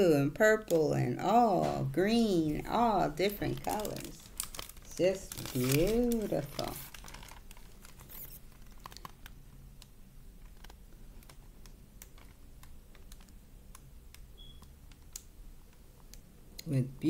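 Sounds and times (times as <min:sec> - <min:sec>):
fingers tapping paper book: 0:00.7 - 0:16.2.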